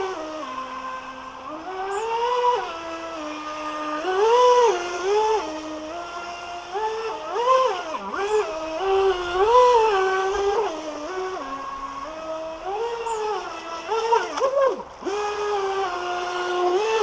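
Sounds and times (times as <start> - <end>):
toy boat motor whining: 0.0 - 17.0.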